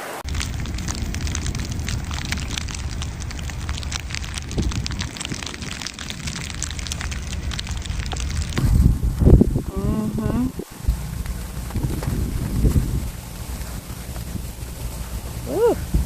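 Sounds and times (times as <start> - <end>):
steady low rumble: 0.2 - 16.0
patter of small ticks: 0.3 - 9.5, 10.6 - 15.6.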